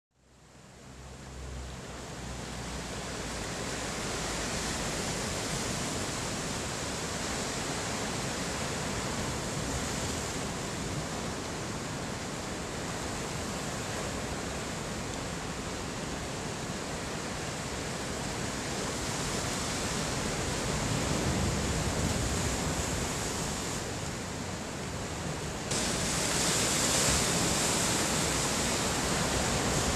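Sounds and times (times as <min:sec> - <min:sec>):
heavy ocean surf breaking: 0:02.3 - 0:29.9.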